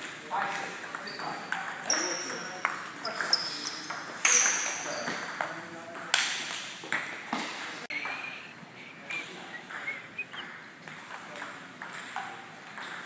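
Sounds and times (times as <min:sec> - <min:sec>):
table tennis balls clicking: 0:00.0 - 0:08.4, 0:09.0 - 0:13.0.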